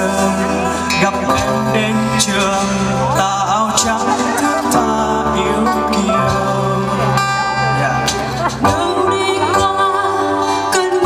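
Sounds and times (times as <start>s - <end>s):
acoustic guitar: 0.0s - 11.0s
bass line: 0.0s - 11.0s
keyboard: 0.0s - 11.0s
man singing into a microphone: 0.0s - 11.0s.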